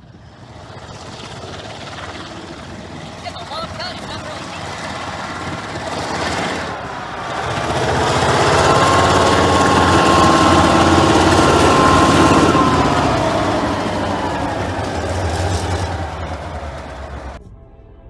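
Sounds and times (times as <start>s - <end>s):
low engine drone: 0.0s - 18.0s
high steady whine: 1.2s - 17.4s.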